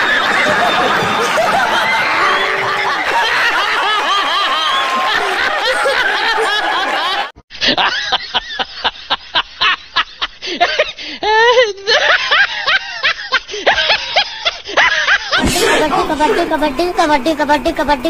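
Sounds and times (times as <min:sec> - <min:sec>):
audience laughing and clapping: 0:00.0 - 0:10.9, 0:11.9 - 0:17.0
choppy laughing bursts: 0:00.0 - 0:10.9, 0:11.9 - 0:18.0.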